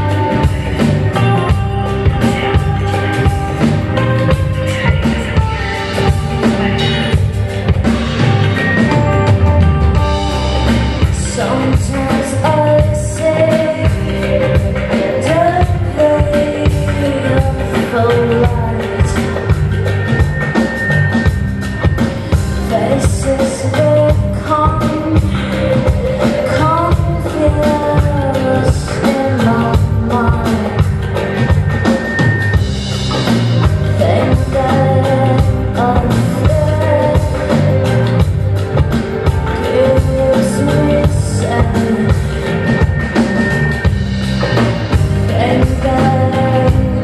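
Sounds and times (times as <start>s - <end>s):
woman singing into a microphone: 0.0s - 7.2s, 10.0s - 20.0s, 22.3s - 31.6s, 33.6s - 43.0s, 45.0s - 47.0s
drum kit: 0.0s - 47.0s
live band music: 0.0s - 47.0s.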